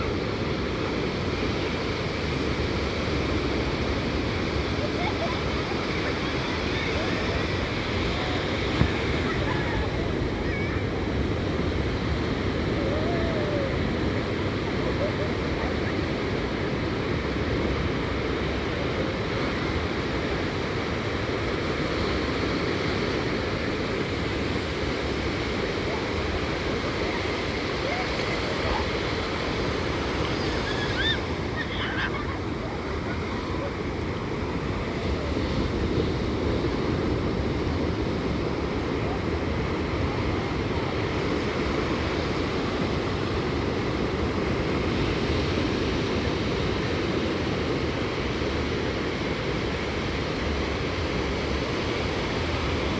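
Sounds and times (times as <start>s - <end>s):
gentle surf on sand: 0.0s - 52.9s
wind rumbling on microphone: 0.0s - 52.9s.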